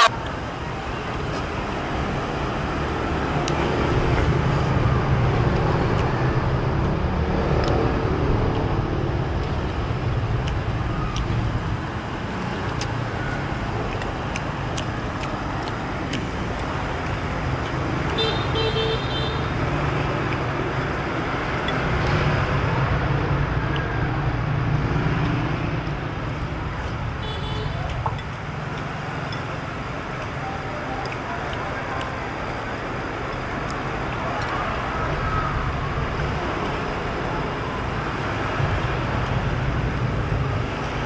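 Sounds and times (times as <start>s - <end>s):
motorbikes and cars passing: 0.0s - 41.0s.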